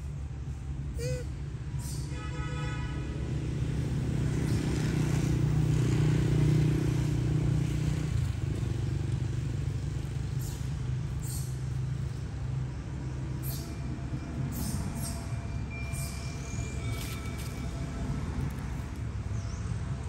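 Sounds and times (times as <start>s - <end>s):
vehicle engine passing by: 3.1s - 20.0s.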